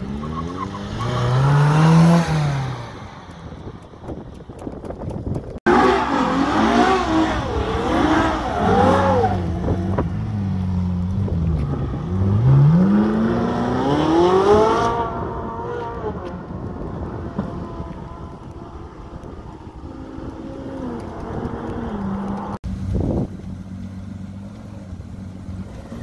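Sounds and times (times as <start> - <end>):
car engine revving: 0.0 - 3.5, 5.6 - 26.0.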